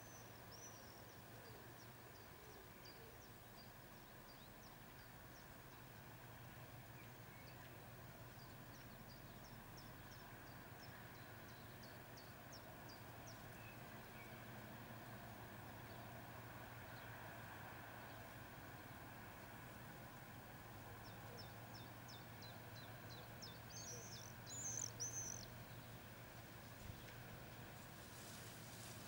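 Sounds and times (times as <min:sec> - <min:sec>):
small birds chirping: 0:00.0 - 0:16.2, 0:20.8 - 0:29.0.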